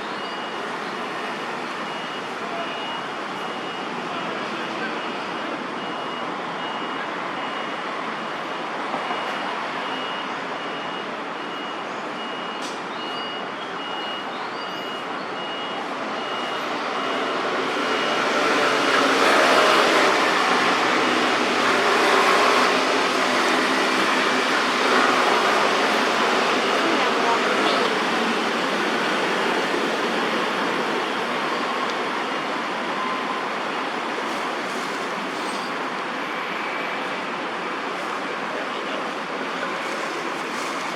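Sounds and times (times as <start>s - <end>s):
city traffic noise: 0.0s - 40.9s.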